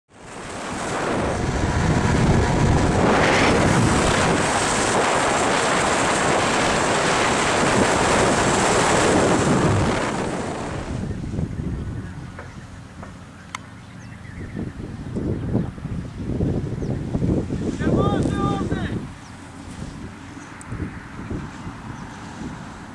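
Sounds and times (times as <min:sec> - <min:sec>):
car road noise: 0:00.1 - 0:15.0, 0:17.4 - 0:22.9
rushing wind: 0:00.1 - 0:22.9.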